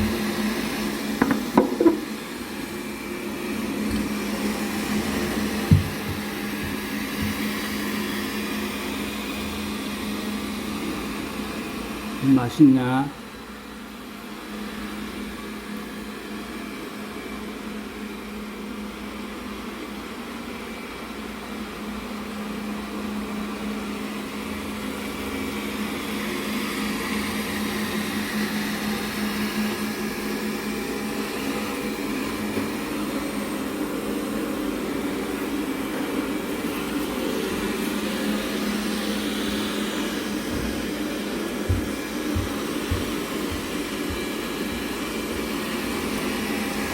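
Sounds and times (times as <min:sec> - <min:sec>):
robot vacuum cleaner humming: 0:00.0 - 0:17.7, 0:23.8 - 0:46.9.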